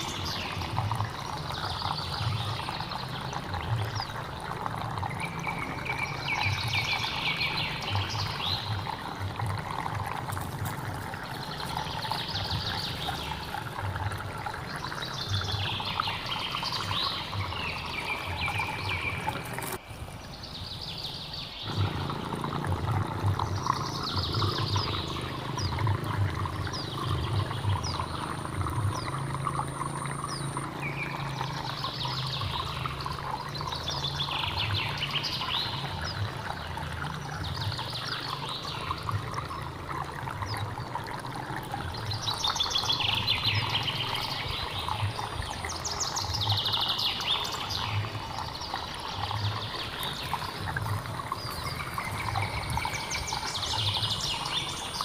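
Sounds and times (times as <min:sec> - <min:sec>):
birds singing: 0:00.0 - 0:10.4, 0:11.0 - 0:55.0
stream flowing: 0:00.0 - 0:55.0.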